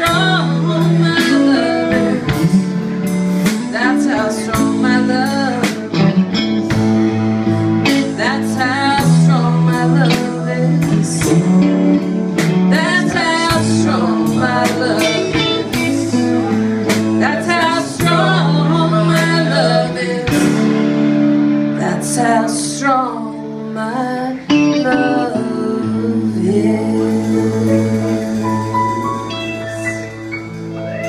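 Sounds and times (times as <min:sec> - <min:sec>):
live band playing a soul ballad: 0:00.0 - 0:31.0.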